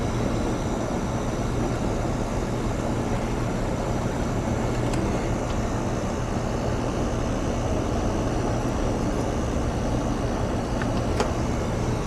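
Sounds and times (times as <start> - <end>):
air conditioner rushing: 0.0 - 12.0
low electrical hum: 0.0 - 12.0.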